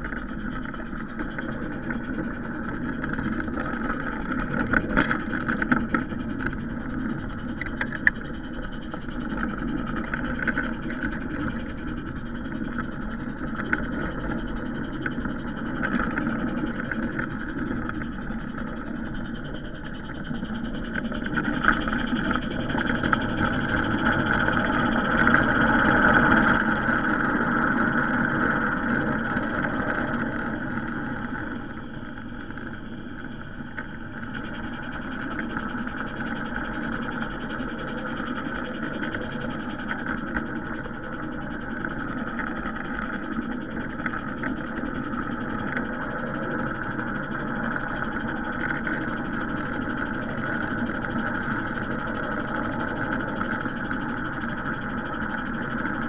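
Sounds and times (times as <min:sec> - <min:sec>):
model train running on rails: 0:00.0 - 0:56.0.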